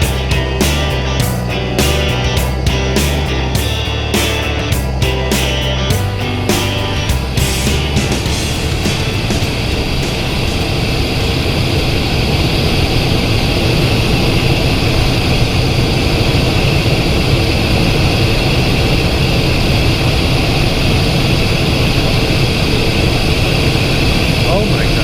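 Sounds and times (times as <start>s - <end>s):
jet engines droning and whining: 2.3s - 25.0s.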